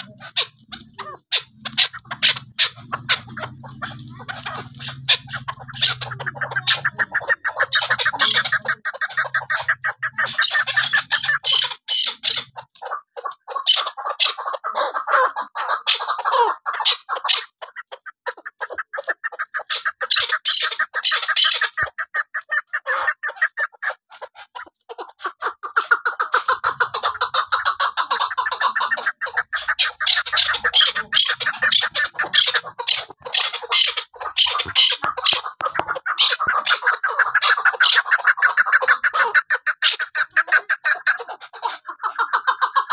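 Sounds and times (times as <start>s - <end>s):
partridge sharp chuck calls: 0.0s - 42.9s.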